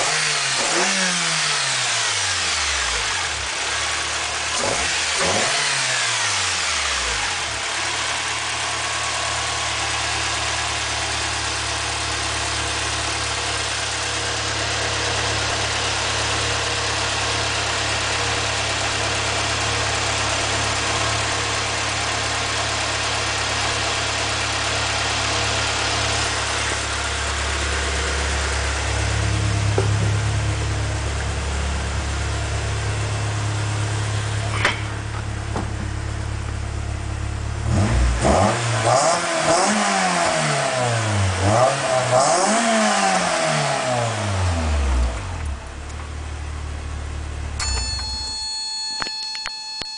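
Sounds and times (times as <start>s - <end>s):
car engine idling: 1.5s - 38.8s, 44.1s - 48.5s.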